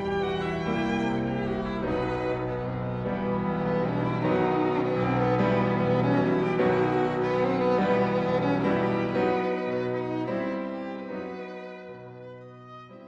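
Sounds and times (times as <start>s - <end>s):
bowed strings playing slow notes: 0.0s - 12.0s.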